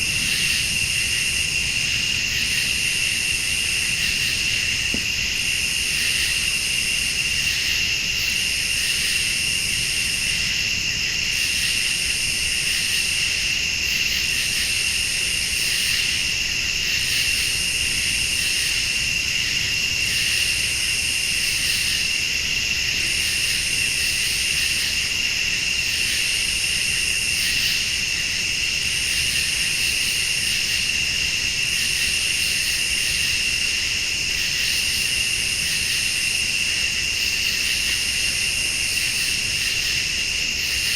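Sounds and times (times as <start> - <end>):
crickets and insects trilling: 0.0 - 40.9
high-pitched insect call: 0.0 - 40.9.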